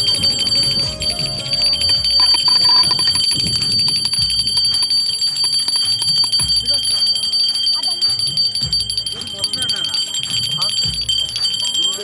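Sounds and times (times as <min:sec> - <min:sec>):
brass hand bell ringing: 0:00.0 - 0:12.0.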